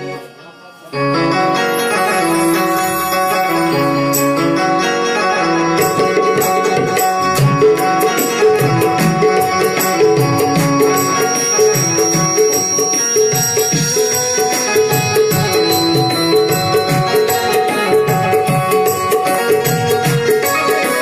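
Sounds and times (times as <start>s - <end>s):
sustained melody line: 0.0s - 21.0s
tabla rhythm: 1.1s - 21.0s.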